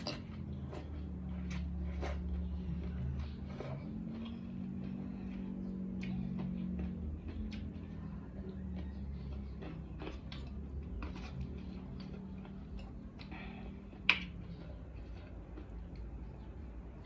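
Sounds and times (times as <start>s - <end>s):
chewing clicks and smacks: 0.0s - 17.0s
steady low hum: 0.0s - 17.0s.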